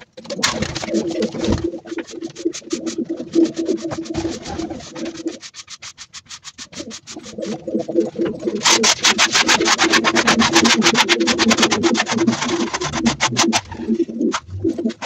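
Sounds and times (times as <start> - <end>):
pigeons cooing: 0.0 - 5.6, 6.6 - 15.0.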